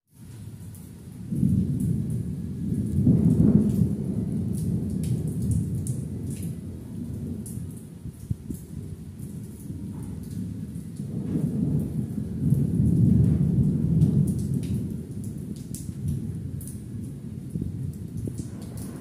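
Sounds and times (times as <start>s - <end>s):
rain pattering on concrete: 0.1s - 19.0s
thunder rumble: 1.2s - 19.0s.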